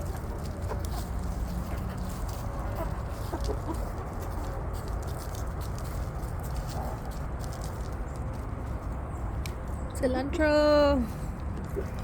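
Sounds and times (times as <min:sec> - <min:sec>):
chickens pecking and scratching: 0:00.0 - 0:10.4, 0:11.0 - 0:12.0.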